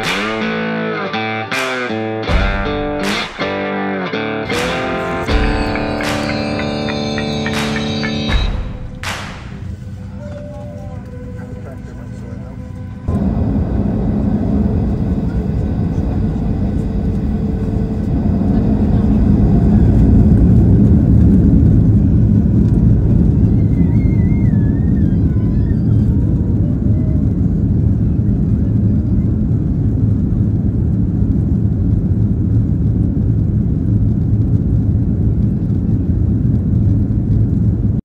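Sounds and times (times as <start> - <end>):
airliner engine and cabin rumble: 4.1 - 38.0.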